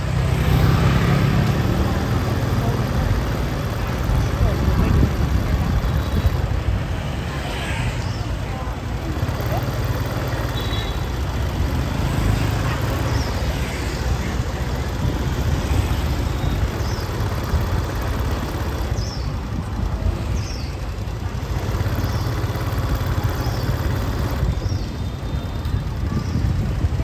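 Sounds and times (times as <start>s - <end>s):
motorbike and car traffic: 0.0s - 27.0s.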